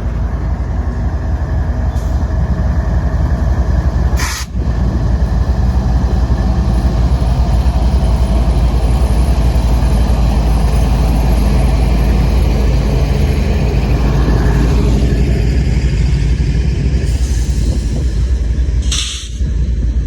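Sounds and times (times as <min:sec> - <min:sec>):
freight train rumbling over rails: 0:00.0 - 0:20.0.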